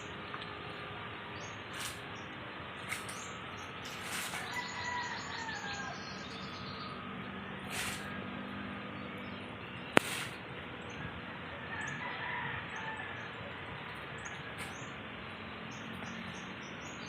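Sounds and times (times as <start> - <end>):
birds chirping: 0.0 - 17.0
outdoor background noise: 0.0 - 17.0.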